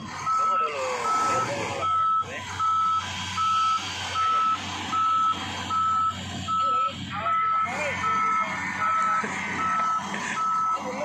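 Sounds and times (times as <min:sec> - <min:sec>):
diesel engine running: 0:00.0 - 0:11.0
backup alarm beeping: 0:00.3 - 0:10.9.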